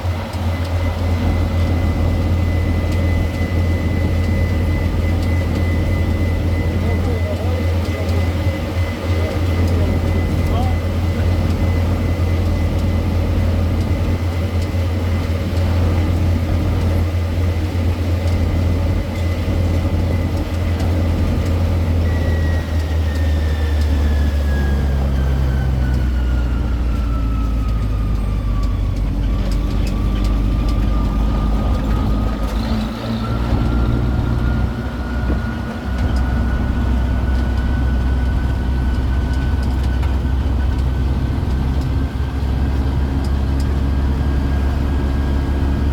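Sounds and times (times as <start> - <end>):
high whine: 0.0 - 45.9
train engine droning: 0.0 - 45.9.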